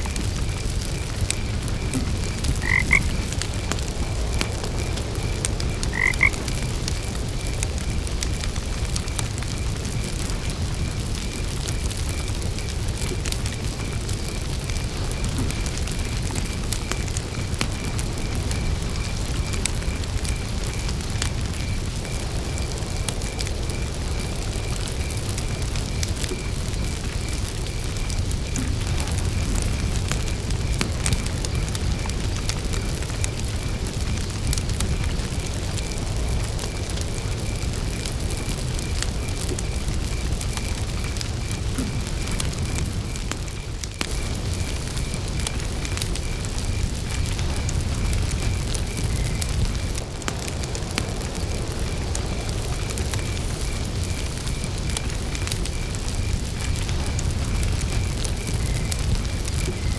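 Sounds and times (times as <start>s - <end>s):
cricket chirping: 0.0s - 59.9s
wood campfire crackling: 0.0s - 59.9s.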